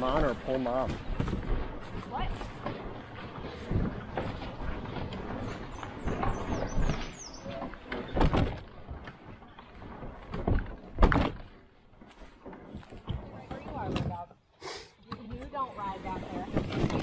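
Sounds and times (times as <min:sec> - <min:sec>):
kayak hull scraping through grass: 0:00.0 - 0:17.0.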